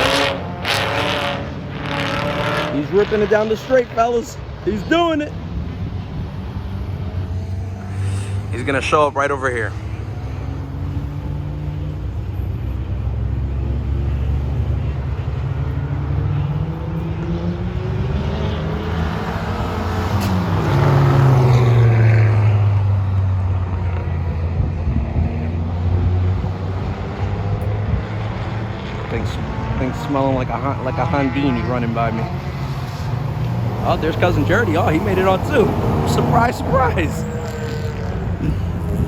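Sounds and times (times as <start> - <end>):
race car passing at high revs: 0.0 - 39.0.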